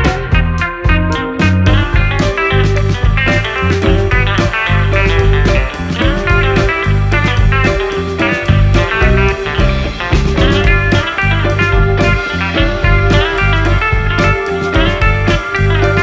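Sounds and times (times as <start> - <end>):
blues-rock music with guitar: 0.0 - 16.0.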